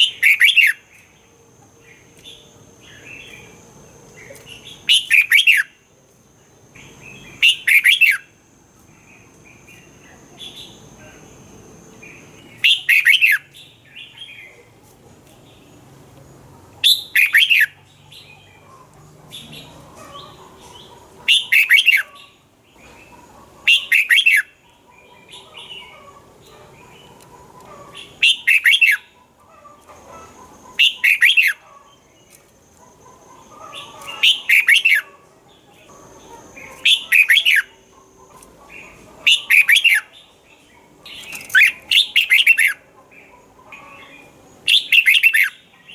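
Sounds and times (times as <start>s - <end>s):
bird singing warbled phrases: 0.0s - 5.9s, 6.5s - 8.4s, 9.0s - 14.8s, 16.8s - 45.9s.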